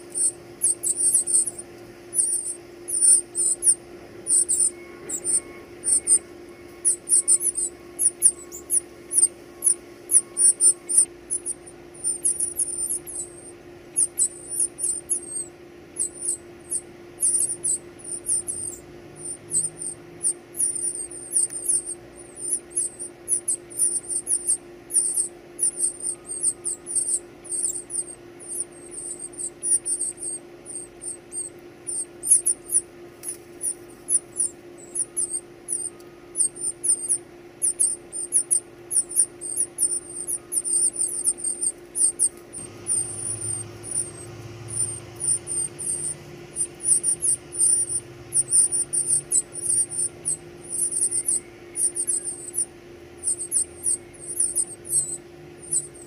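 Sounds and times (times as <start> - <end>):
faint steady hum: 0.0 - 56.0
nestlings begging squeaky calls: 0.0 - 56.0.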